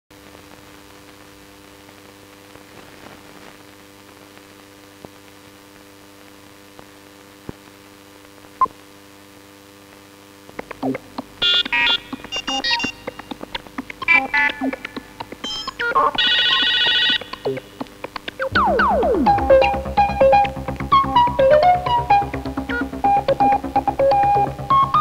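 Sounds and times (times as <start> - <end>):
faint steady hum: 0.2 - 25.0.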